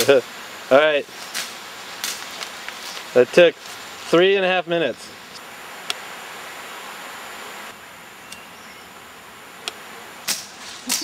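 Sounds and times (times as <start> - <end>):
insects buzzing and hissing: 0.0 - 11.0.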